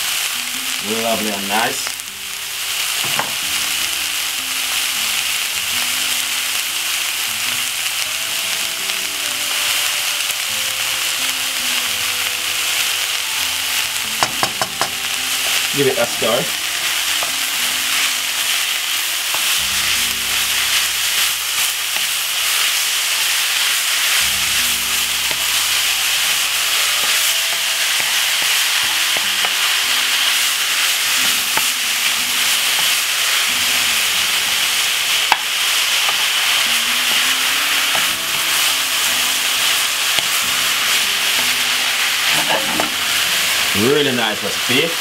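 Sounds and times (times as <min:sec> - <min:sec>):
meat sizzling in a frying pan: 0:00.0 - 0:45.0.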